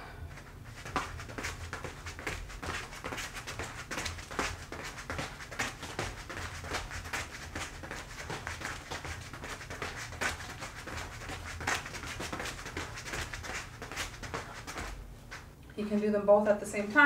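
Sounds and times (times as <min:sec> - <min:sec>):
soft footsteps on foam mat: 0:00.3 - 0:16.2.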